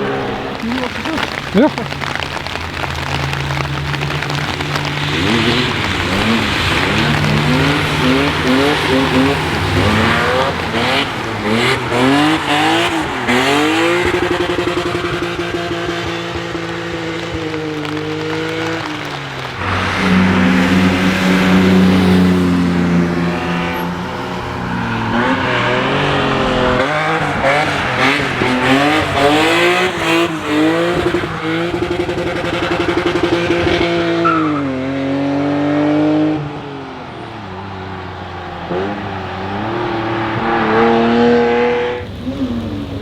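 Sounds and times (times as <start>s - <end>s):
car engine revving hard: 0.0s - 43.0s.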